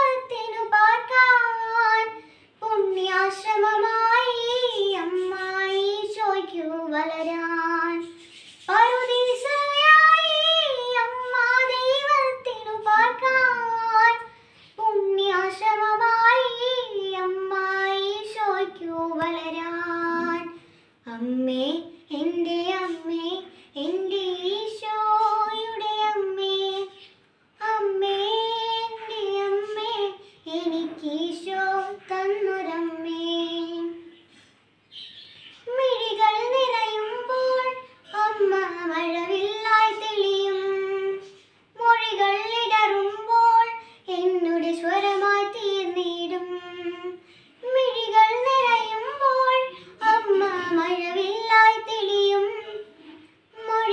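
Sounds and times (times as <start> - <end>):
girl singing unaccompanied: 0.0 - 53.9.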